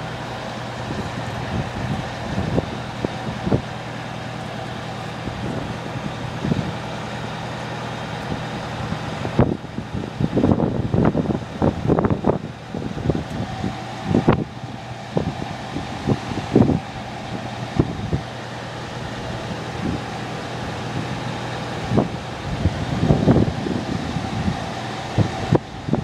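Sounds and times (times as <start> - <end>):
fire truck engine humming: 0.0 - 26.0
wind: 0.0 - 26.0.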